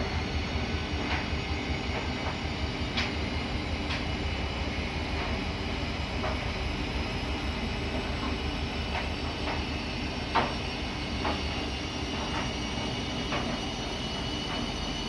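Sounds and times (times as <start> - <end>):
washing machine drum rumbling: 0.0 - 14.8.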